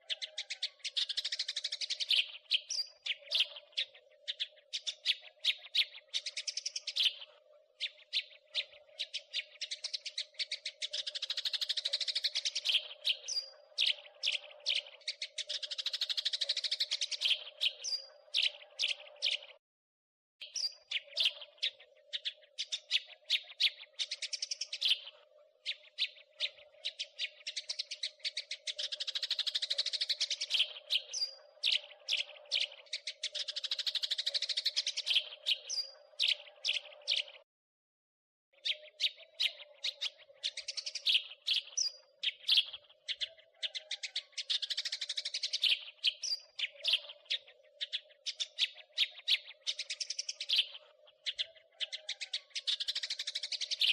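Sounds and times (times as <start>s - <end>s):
sparrows chirping: 0.0s - 19.6s, 20.4s - 37.4s, 38.6s - 53.9s.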